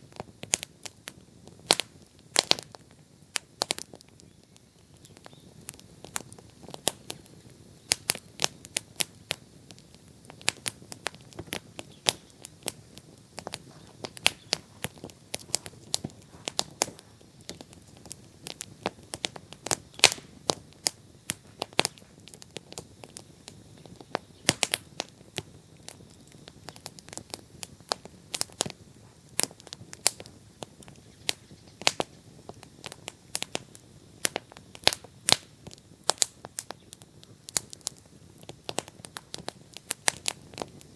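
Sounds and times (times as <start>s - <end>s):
bonfire crackling: 0.0s - 40.9s
faint steady hiss: 0.0s - 40.9s.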